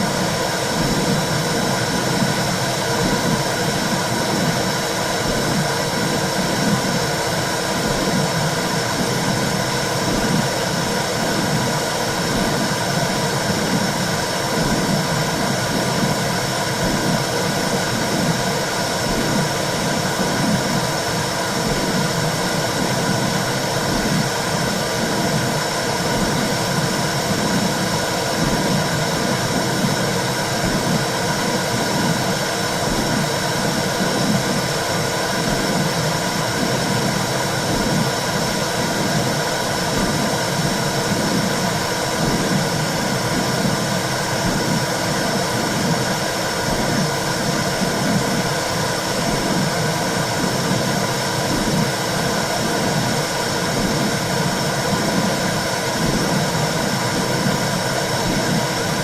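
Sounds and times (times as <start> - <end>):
low rhythmic pulse: 0.0 - 59.0.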